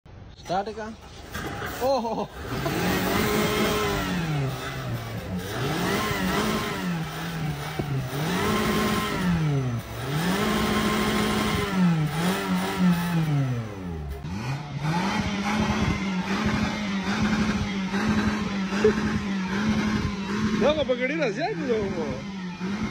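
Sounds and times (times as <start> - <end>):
car engine revving: 0.5 - 22.9.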